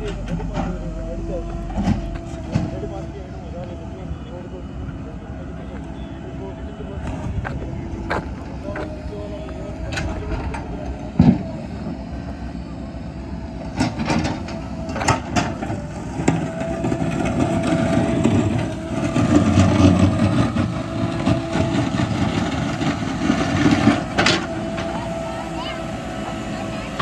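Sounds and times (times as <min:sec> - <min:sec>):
heavy machinery engine running: 0:00.0 - 0:27.0.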